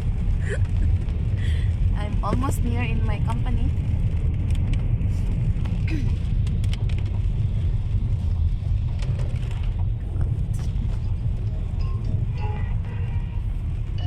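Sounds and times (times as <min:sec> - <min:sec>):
car driving rumble inside cabin: 0:00.0 - 0:14.0.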